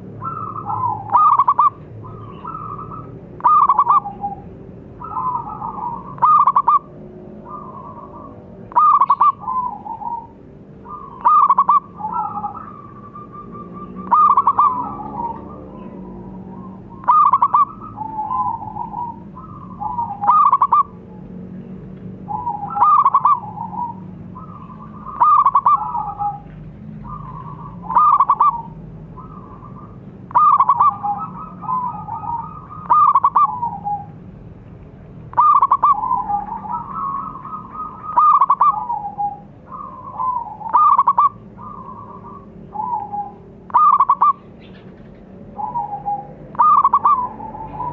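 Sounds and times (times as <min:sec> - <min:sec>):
dove cooing: 0:00.0 - 0:21.3, 0:22.2 - 0:34.4, 0:35.3 - 0:47.9.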